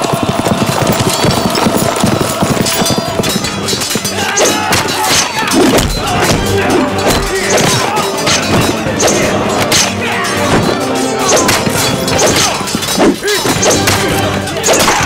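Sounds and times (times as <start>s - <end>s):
horses galloping: 0.0s - 15.0s
film music score: 2.4s - 15.0s
men shouting: 2.4s - 15.0s.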